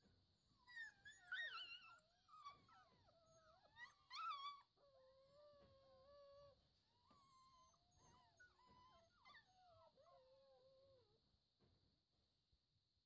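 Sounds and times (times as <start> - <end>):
puppies whining: 0.0 - 11.0.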